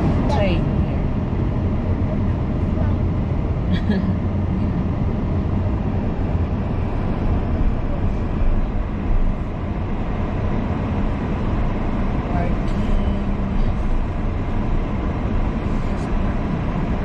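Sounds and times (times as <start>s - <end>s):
moving vehicle rumble: 0.0s - 17.0s.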